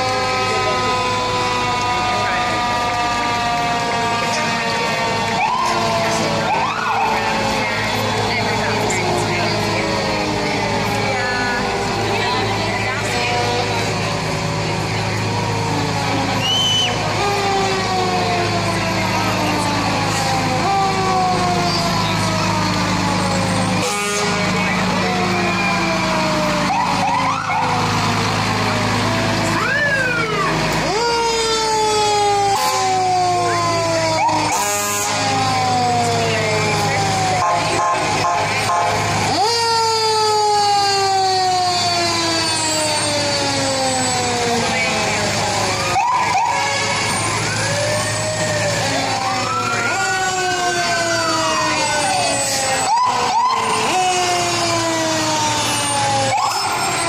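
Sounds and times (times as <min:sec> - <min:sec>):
fire truck sirens wailing: 0:00.0 - 0:57.0
truck engines droning: 0:00.0 - 0:57.0.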